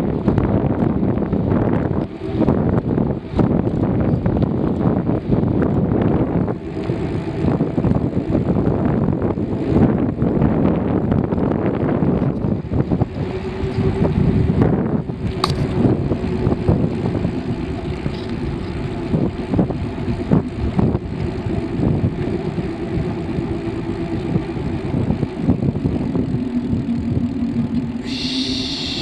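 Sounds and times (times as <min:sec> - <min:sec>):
bicycle rumble on a path: 0:00.0 - 0:29.0
wind buffeting microphone: 0:00.0 - 0:29.0.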